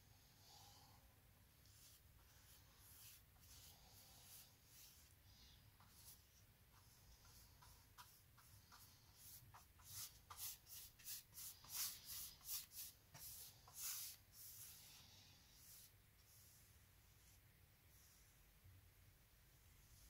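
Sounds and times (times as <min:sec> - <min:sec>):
paintbrush swishing on plaster wall: 0:01.4 - 0:18.7, 0:19.4 - 0:20.0.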